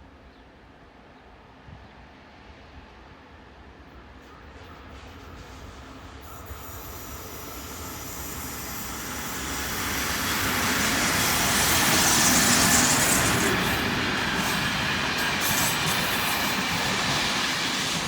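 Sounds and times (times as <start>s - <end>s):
train rumbling on track: 0.9s - 18.0s.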